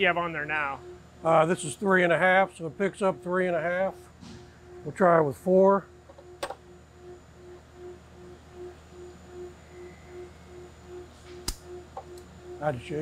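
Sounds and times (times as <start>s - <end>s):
faint pulsing hum: 0.0s - 13.0s.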